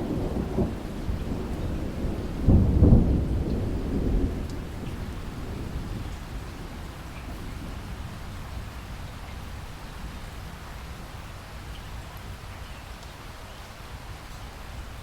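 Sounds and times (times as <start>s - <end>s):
low thunder rumble: 0.0s - 12.4s
rain falling: 0.0s - 15.0s.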